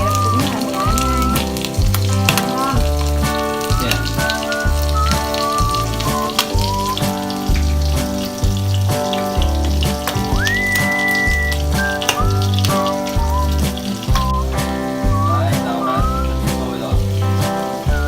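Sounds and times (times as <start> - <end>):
crabs frying in oil: 0.0 - 18.0
melody over rhythmic bass line: 0.0 - 18.0.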